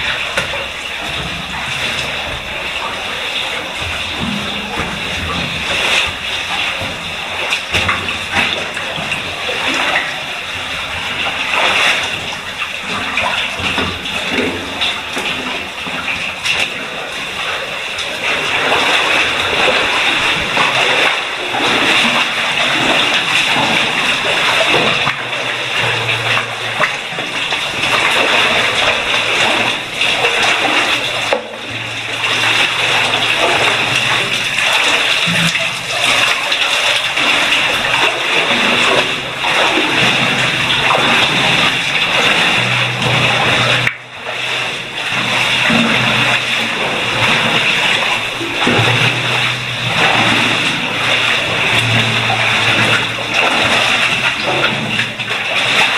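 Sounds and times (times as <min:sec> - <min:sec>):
water dripping: 0:00.0 - 0:55.9
water rushing: 0:00.0 - 0:55.9.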